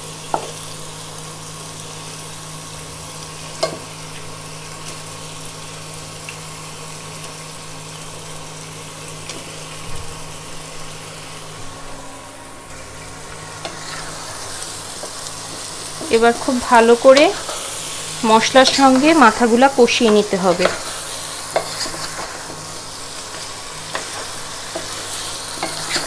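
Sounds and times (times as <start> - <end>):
paste sizzling in a pan: 0.0 - 26.0.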